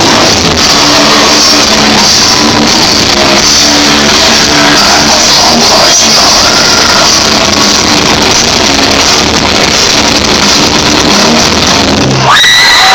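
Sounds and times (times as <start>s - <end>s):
live rock music: 0.0s - 12.9s.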